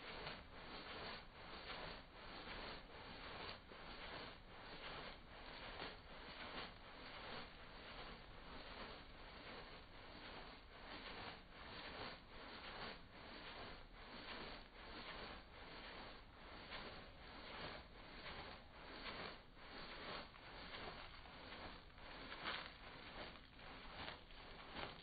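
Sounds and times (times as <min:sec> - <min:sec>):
spice shaker swishing: 0:00.0 - 0:25.0.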